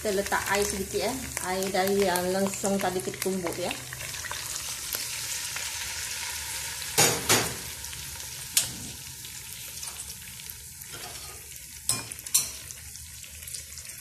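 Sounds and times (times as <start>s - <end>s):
paste sizzling in a wok: 0.0s - 14.0s.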